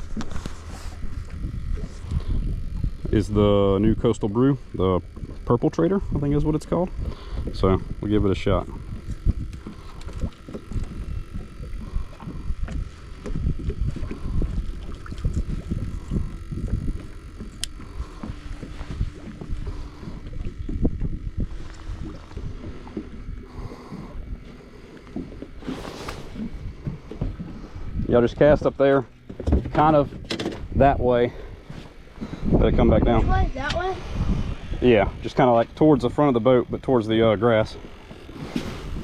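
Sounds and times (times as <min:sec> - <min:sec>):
faint steady hum: 0:00.0 - 0:39.0
wind buffeting microphone: 0:00.0 - 0:39.0.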